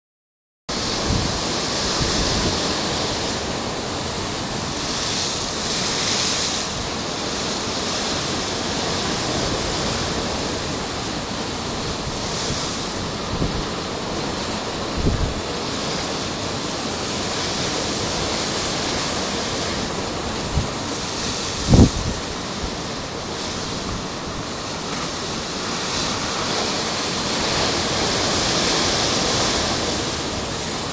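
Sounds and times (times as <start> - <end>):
steady rushing noise: 0.7 - 30.9
wind buffeting the microphone: 0.7 - 30.9.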